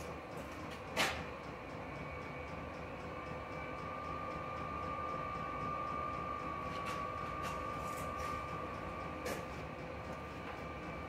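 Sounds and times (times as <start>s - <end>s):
air heater blower roaring: 0.0s - 11.0s.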